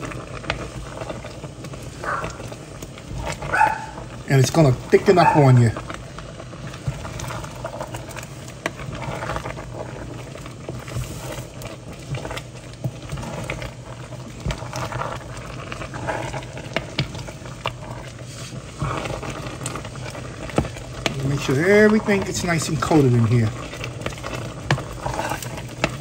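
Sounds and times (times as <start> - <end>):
food sizzling in pot: 0.0 - 26.0
wooden spoon stirring and scraping: 0.0 - 26.0.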